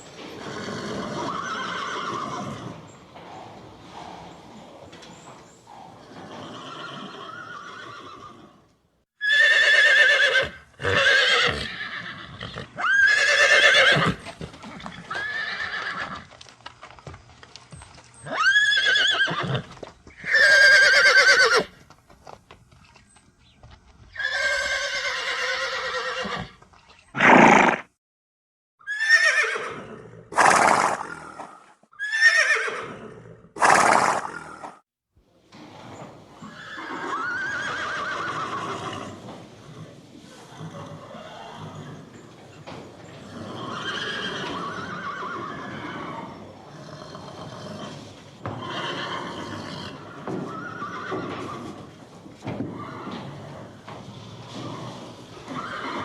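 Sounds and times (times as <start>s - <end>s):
horses whinnying: 0.0s - 16.3s, 18.2s - 21.7s, 24.1s - 26.6s, 27.2s - 27.9s, 28.9s - 34.7s, 35.6s - 56.0s.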